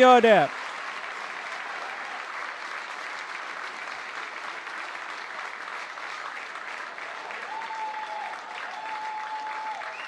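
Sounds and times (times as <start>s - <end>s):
stadium crowd applauding and cheering: 0.0s - 10.0s.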